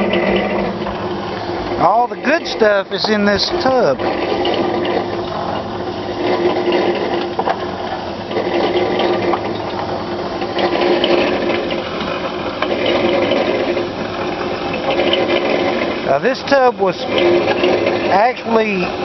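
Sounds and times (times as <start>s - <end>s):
motor humming: 0.0s - 19.0s
steel balls rattling in a drum: 0.0s - 19.0s.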